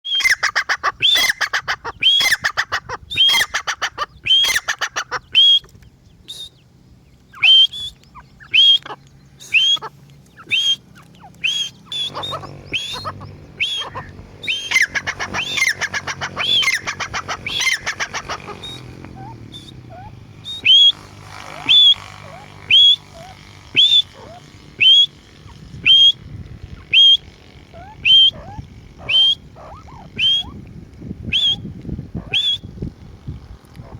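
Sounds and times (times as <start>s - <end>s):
partridge calling: 0.0s - 30.6s, 31.3s - 32.7s.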